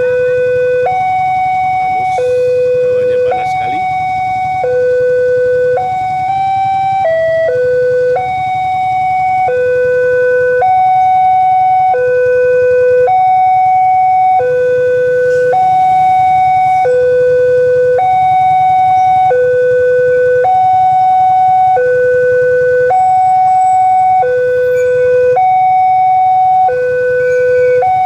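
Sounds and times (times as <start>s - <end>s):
level crossing two-tone alarm: 0.0s - 28.0s.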